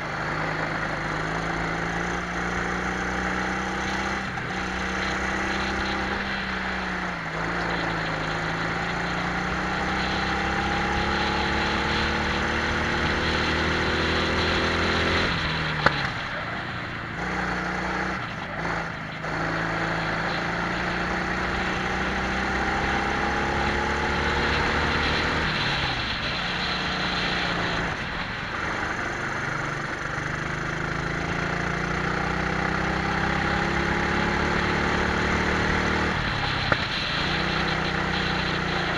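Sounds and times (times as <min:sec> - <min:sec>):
kart engines accelerating: 0:00.0 - 0:38.9.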